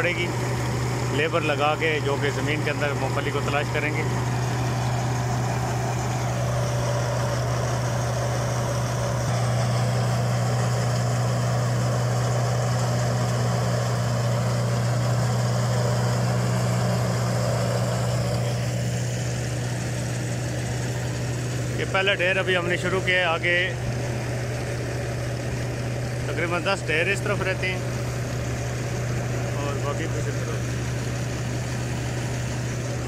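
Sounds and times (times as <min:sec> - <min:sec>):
thresher rushing noise: 0:00.0 - 0:33.0
tractor engine drone: 0:00.0 - 0:33.0.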